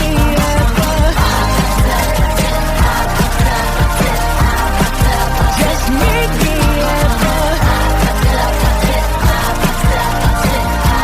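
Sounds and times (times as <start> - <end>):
fast drum beat: 0.0 - 11.0
held bass line: 0.0 - 11.0.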